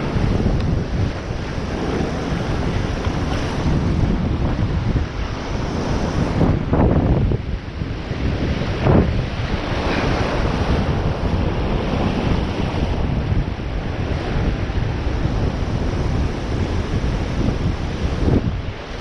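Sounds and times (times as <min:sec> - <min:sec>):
surf breaking and washing: 0:00.0 - 0:19.0
wind buffeting microphone: 0:00.0 - 0:19.0.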